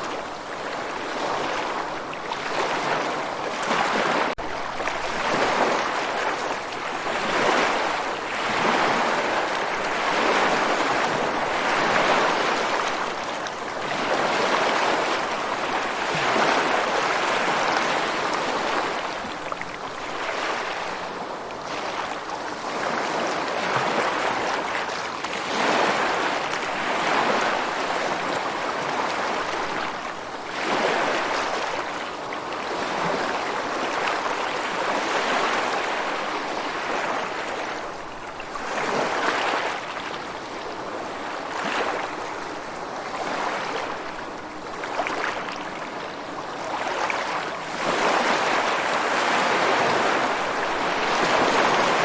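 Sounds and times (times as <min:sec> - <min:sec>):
ocean waves breaking on shore: 0:00.0 - 0:52.0.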